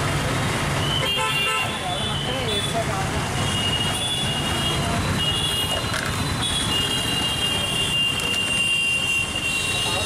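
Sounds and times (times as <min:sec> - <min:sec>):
street traffic: 0:00.0 - 0:10.0
vehicle horns: 0:00.8 - 0:02.8, 0:03.4 - 0:10.0.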